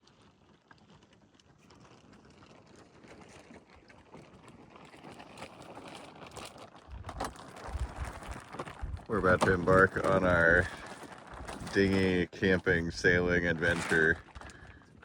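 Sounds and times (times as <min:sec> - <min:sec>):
outdoor noise: 0:00.0 - 0:15.0.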